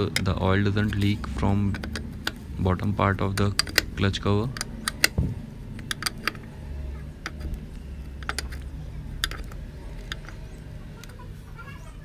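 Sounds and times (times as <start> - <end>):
spanner clicking on metal nut: 0.0 - 2.4, 3.1 - 6.6, 7.2 - 11.2
low steady hum: 0.0 - 12.0.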